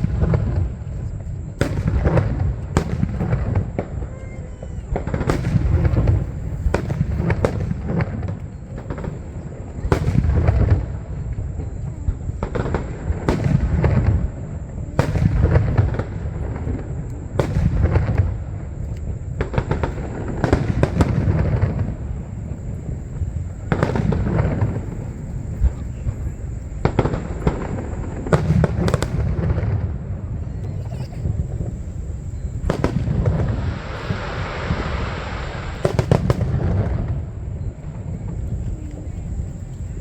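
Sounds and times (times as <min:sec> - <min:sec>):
fireworks booming and cracking: 0:00.0 - 0:40.0.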